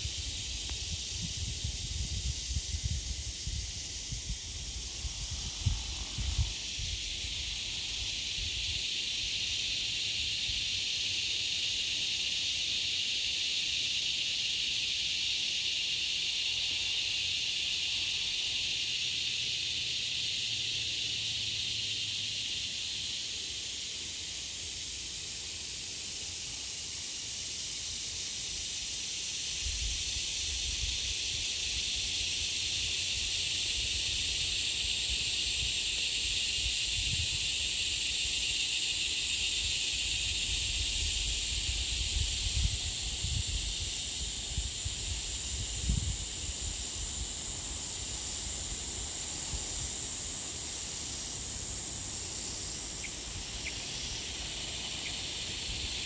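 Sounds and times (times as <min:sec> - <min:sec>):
high pulsing insect sound: 0:00.0 - 0:56.0
insect chorus buzzing: 0:00.0 - 0:56.0.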